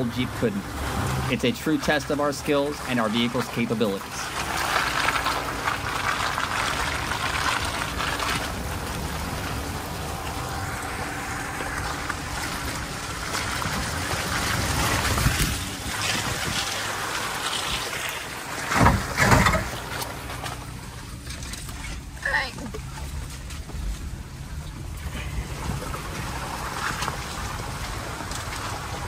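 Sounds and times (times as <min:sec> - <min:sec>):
engine running at low speed: 0:00.0 - 0:29.0
rain and water noise: 0:00.0 - 0:29.0.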